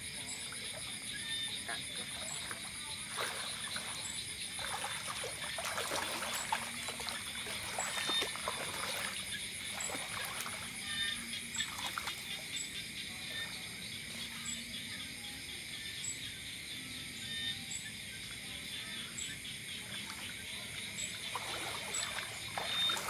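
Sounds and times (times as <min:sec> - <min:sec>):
pond water splashing and trickling: 0:00.0 - 0:14.9, 0:18.2 - 0:23.0.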